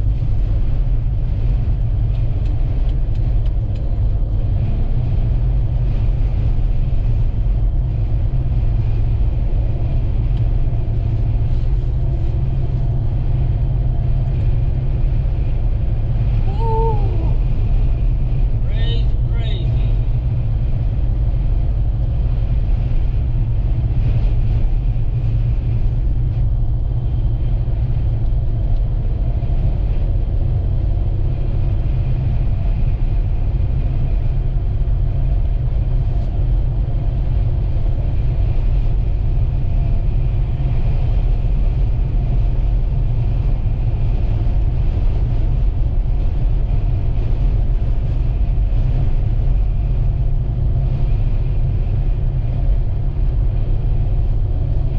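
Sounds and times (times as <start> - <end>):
vehicle driving on highway: 0.0 - 54.9.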